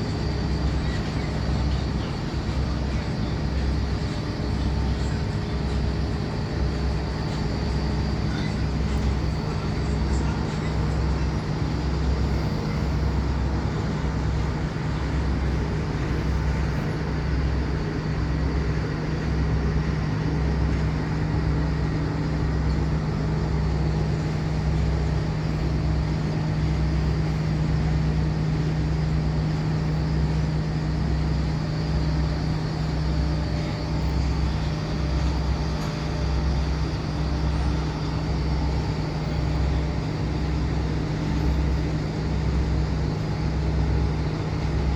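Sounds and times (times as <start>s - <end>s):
machinery hum with deep pulse: 0.0s - 44.9s.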